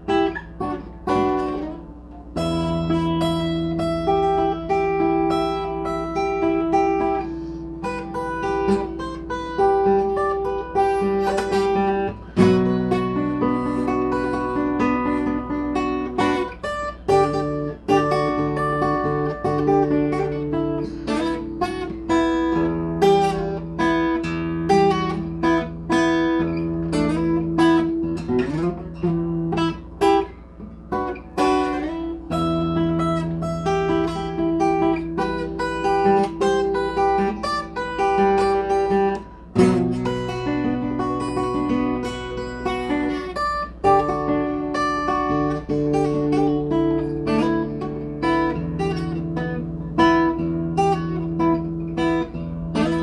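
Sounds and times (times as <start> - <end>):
acoustic guitar strumming chords: 0.0 - 53.0.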